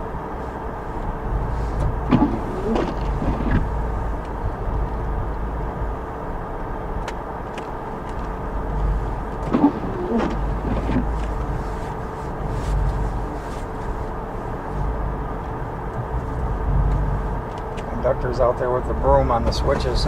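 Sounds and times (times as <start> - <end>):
steady hum: 0.0 - 20.0
vehicle engine idling: 0.0 - 20.0.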